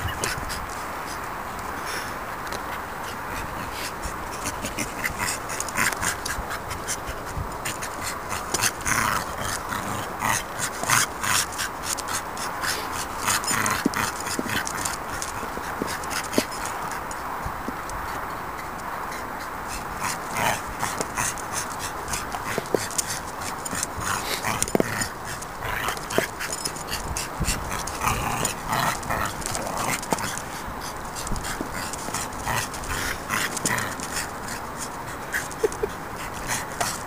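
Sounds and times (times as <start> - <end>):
dog breathing: 0.0 - 37.0
paws and rubber scuffing tarmac: 0.0 - 37.0.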